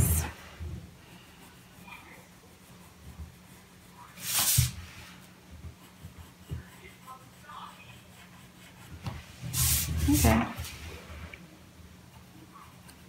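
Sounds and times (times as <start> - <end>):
pencil strokes on paper: 0.0 - 11.0.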